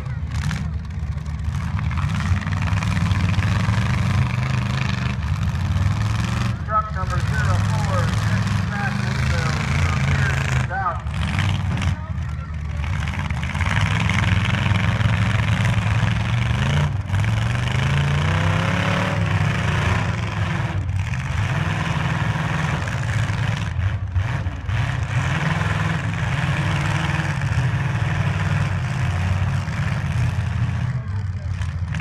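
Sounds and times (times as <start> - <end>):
truck engine revving: 0.0 - 32.0
truck engines running: 0.0 - 32.0.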